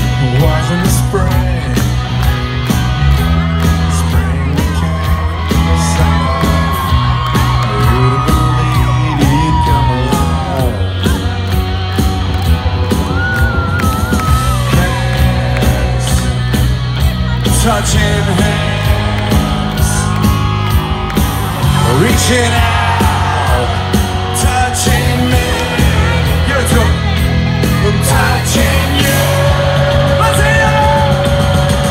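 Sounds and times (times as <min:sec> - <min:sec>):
crowd shouting: 0:00.0 - 0:31.9
live country-rock band: 0:00.0 - 0:31.9.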